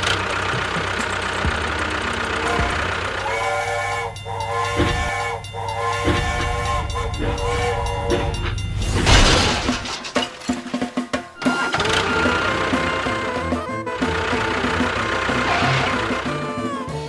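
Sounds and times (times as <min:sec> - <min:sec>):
low engine hum: 0:00.0 - 0:09.9, 0:11.7 - 0:17.0
horn blasts: 0:00.0 - 0:10.2, 0:11.0 - 0:17.0.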